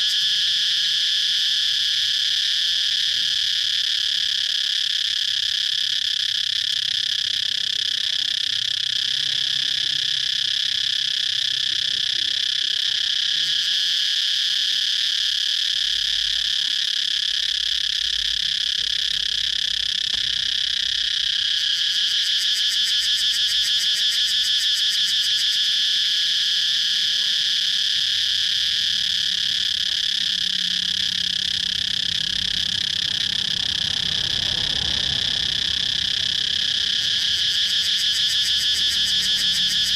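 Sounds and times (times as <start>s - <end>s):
cicadas droning: 0.0s - 39.9s
rapid pulsing insect call: 0.0s - 39.9s.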